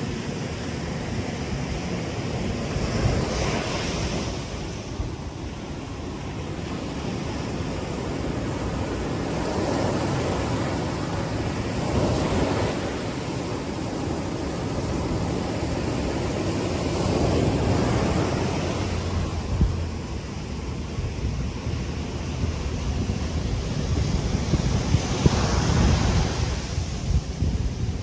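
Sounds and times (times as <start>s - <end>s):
ocean surf breaking on beach: 0.0s - 28.0s.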